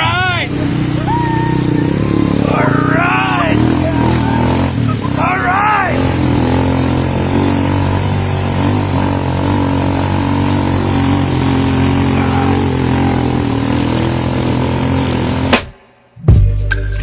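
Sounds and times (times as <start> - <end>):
motorcycle engine running: 0.0 - 15.8
road and wind noise: 0.0 - 15.8.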